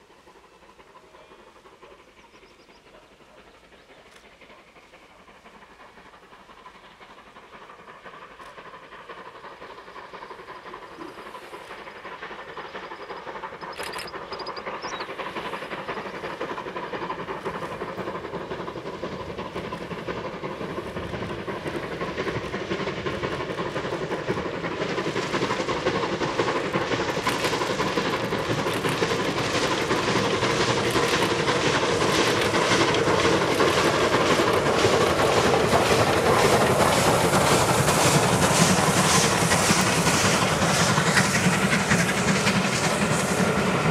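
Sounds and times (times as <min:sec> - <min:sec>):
steam locomotive exhaust beats: 0:00.0 - 0:43.9.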